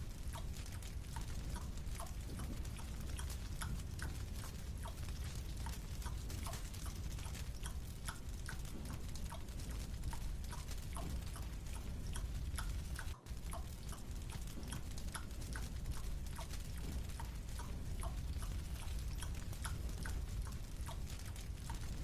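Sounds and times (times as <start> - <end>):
steady low hum: 0.0 - 22.0
chewing with sticky mouth clicks: 0.8 - 21.9.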